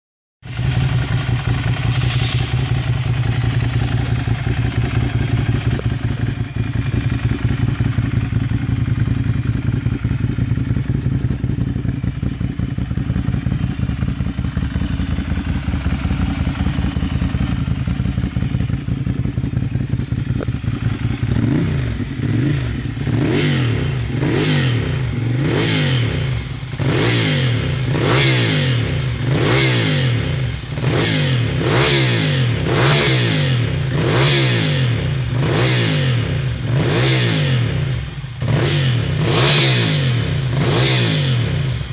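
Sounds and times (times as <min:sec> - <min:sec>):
motorcycle engine revving: 0:00.4 - 0:41.9.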